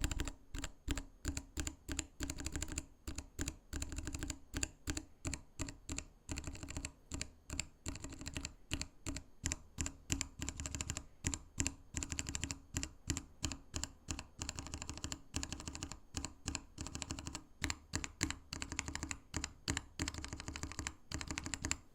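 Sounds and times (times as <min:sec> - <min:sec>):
mechanical keyboard typing: 0:00.0 - 0:21.9.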